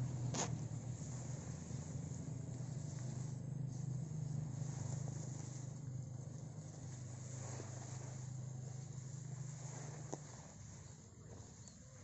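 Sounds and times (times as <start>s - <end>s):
distant engine hum: 0.0s - 12.0s
faint open-air ambience: 0.0s - 12.0s.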